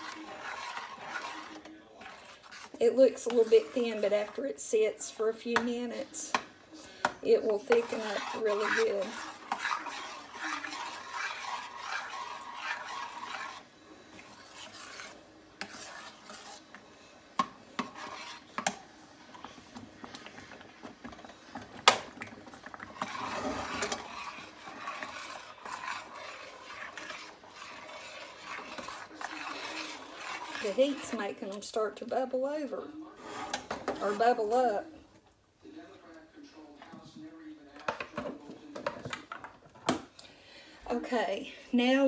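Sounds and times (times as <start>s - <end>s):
spoon scraping metal pan: 0.0s - 34.9s
spoon stirring mashed potatoes: 0.0s - 42.0s.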